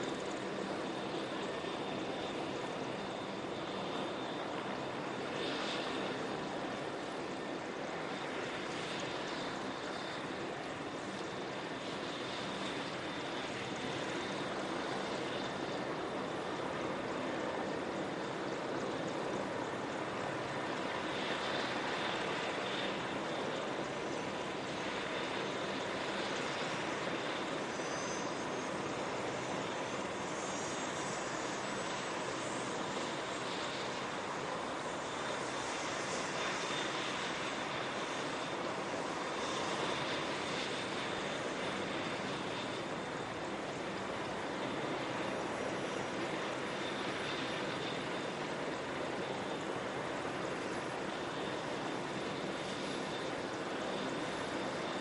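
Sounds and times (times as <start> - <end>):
helicopter rotor and turbine noise: 0.0 - 55.0
high turbine whine: 0.0 - 55.0.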